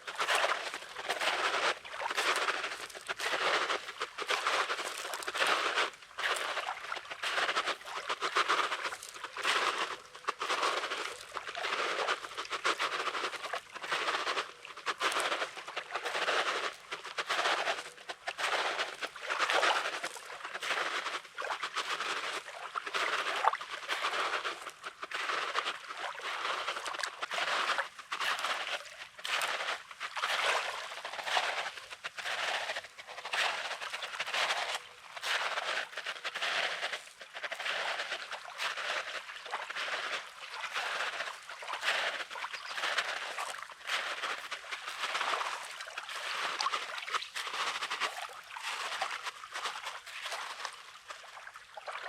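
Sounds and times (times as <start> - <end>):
footsteps crunching on pebbly sand: 0.0 - 51.2.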